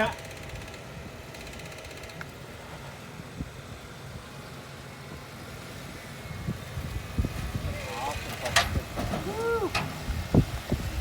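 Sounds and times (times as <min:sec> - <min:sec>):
vehicle engine running low: 0:00.0 - 0:11.0.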